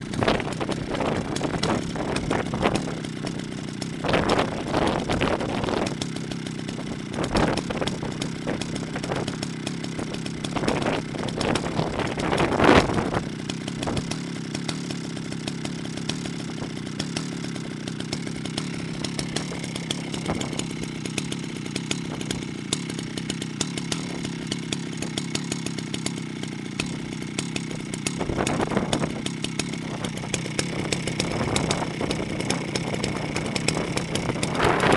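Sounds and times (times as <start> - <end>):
chainsaw idling: 0.0 - 34.9
chainsaw throttle revving: 0.0 - 34.9.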